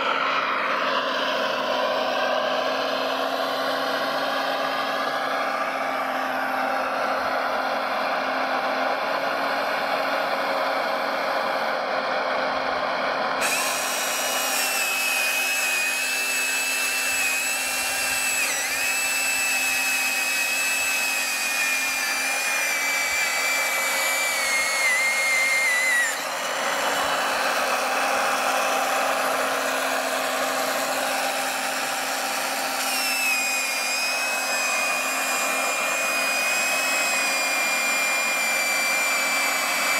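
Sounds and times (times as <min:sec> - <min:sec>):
chainsaw motor whining: 0:00.0 - 0:39.9
steady motor hum: 0:00.0 - 0:39.9.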